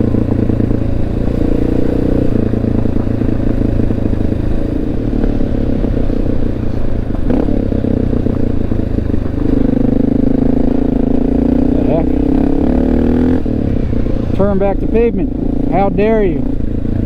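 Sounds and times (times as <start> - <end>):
gravel crackling under tyres: 0.0 - 17.0
motorcycle engine cruising: 0.0 - 17.0.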